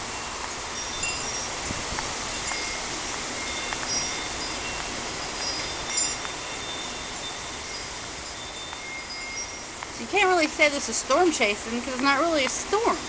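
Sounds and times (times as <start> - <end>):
wind chimes ringing: 0.0 - 13.0
wind rushing through trees: 0.0 - 13.0.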